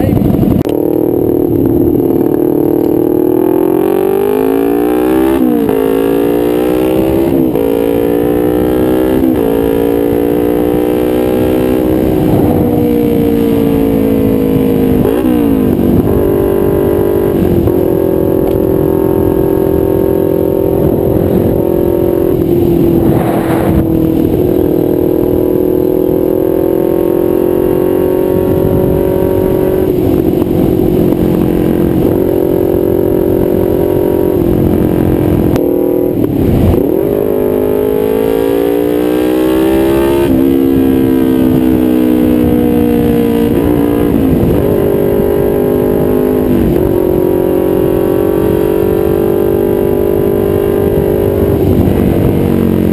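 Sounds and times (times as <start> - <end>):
motorcycle engine cruising: 0.0 - 52.9.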